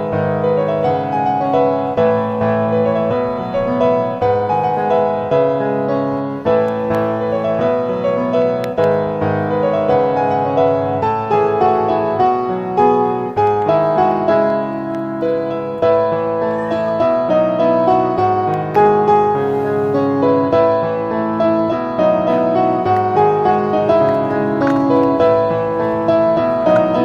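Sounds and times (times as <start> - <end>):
gentle piano melody: 0.0 - 27.0.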